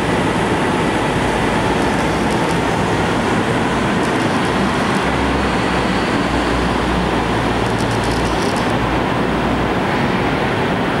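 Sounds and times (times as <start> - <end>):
bus engine hum: 0.0 - 11.0
rushing noise echoing in tunnel: 0.0 - 11.0.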